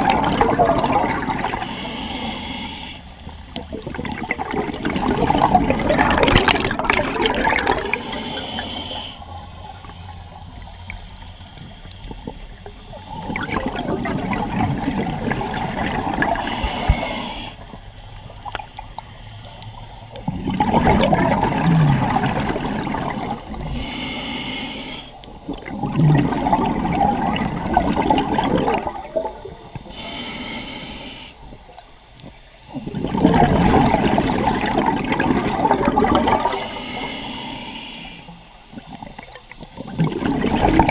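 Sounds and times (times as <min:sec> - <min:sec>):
regulator hiss: 0:00.0 - 0:04.0, 0:07.4 - 0:20.4, 0:21.6 - 0:25.8, 0:26.4 - 0:33.2, 0:34.3 - 0:40.0
exhaled air bubbling underwater: 0:00.0 - 0:40.9.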